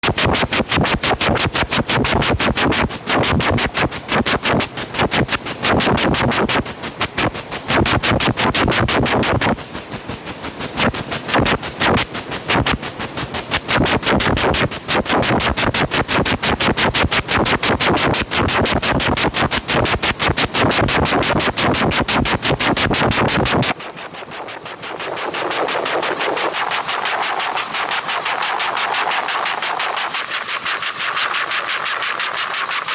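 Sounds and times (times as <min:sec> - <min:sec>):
machine whirring: 0:00.0 - 0:32.9.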